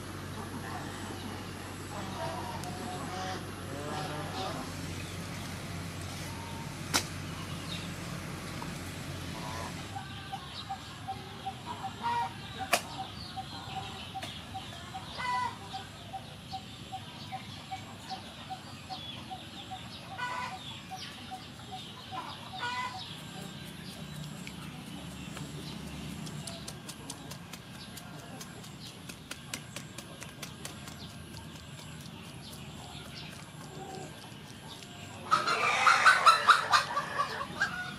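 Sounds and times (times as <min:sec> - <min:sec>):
chickens clucking: 0:06.2 - 0:37.9.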